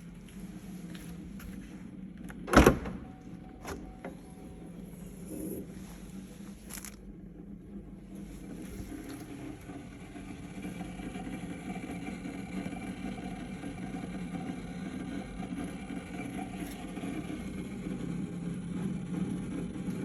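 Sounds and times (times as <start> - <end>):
fuel pump humming: 0.0 - 20.0.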